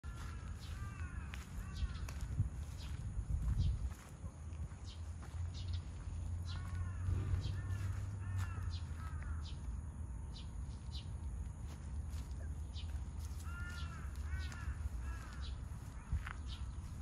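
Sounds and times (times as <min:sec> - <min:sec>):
birds repeated calls: 0:00.0 - 0:17.0
steady low rumble: 0:01.6 - 0:17.0.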